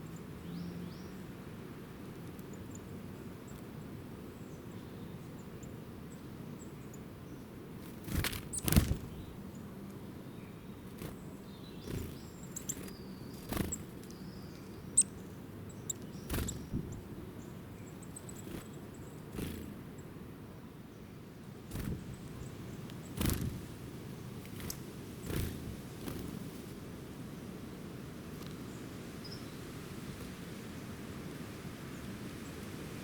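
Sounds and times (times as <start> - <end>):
small birds chirping: 0.0 - 1.4, 2.0 - 27.7, 28.3 - 29.8.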